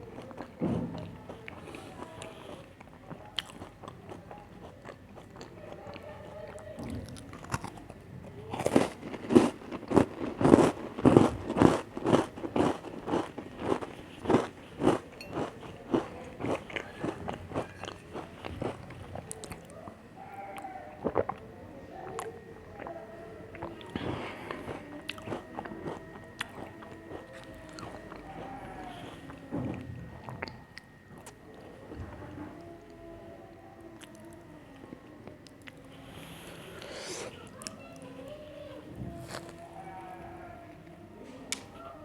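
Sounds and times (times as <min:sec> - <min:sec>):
crunchy cookie chewing: 0:00.0 - 0:42.0.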